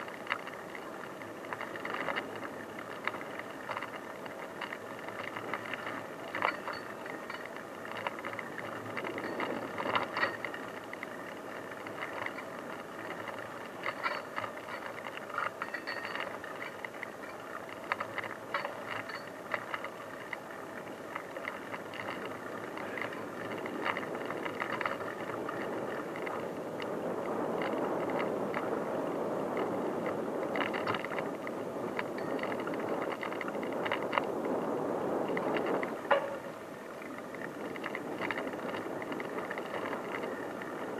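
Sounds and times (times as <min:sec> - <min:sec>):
bicycle tyres rolling on dirt: 0:00.0 - 0:40.9
bike rattles and clicks: 0:00.0 - 0:40.9.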